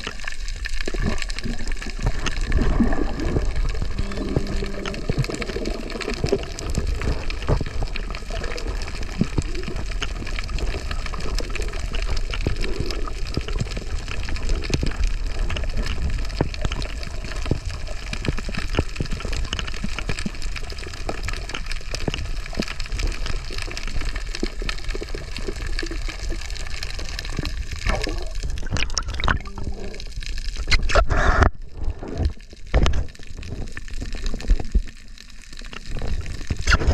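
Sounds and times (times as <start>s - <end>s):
fine crackling underwater: 0.0s - 36.9s
underwater water noise: 0.0s - 36.9s
water splashing and sloshing: 0.0s - 36.9s.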